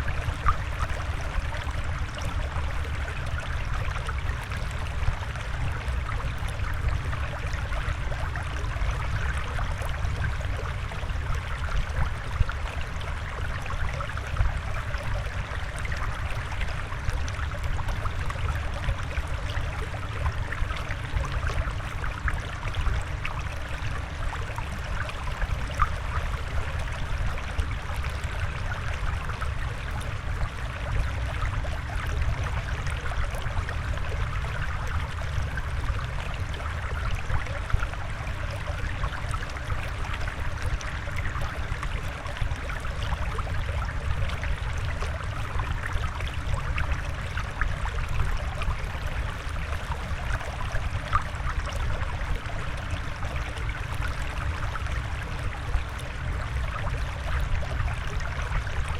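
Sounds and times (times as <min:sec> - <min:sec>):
water flowing and trickling: 0:00.0 - 0:58.9.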